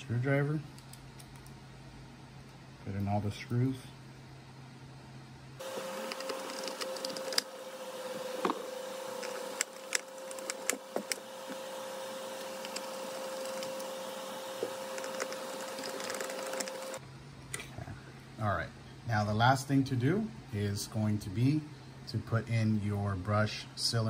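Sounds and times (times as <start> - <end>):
steady high hum: 0.0 - 24.0.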